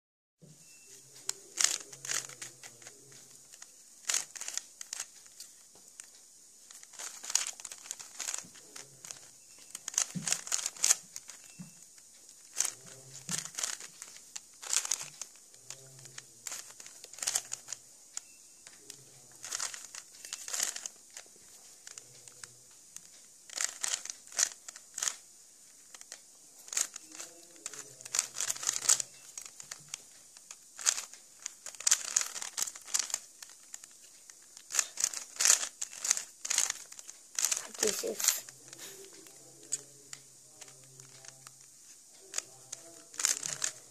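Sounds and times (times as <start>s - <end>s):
puzzle cube clicking: 1.1s - 43.9s.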